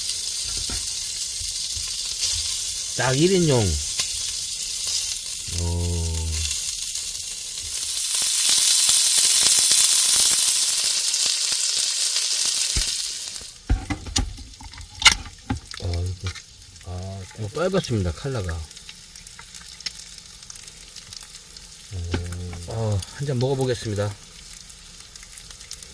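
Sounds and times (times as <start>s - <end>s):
meat sizzling on grill plate: 0.0s - 25.9s.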